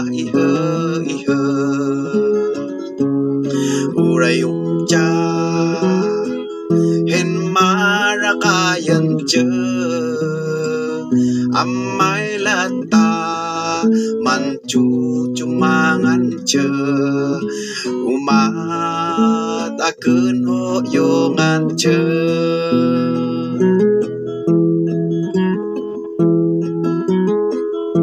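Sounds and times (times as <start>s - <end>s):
acoustic guitar playing: 0.0s - 28.0s.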